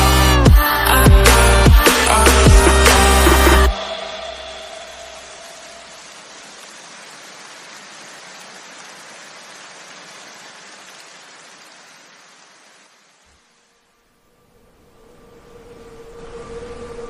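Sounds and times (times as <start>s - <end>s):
steady rushing hiss: 0.6s - 17.0s.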